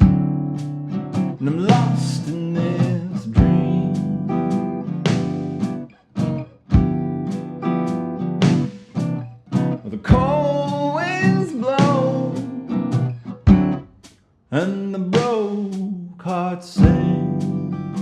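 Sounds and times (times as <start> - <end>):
sliding guitar melody: 0.0 - 13.9, 16.8 - 18.0
acoustic guitar strumming: 0.0 - 18.0.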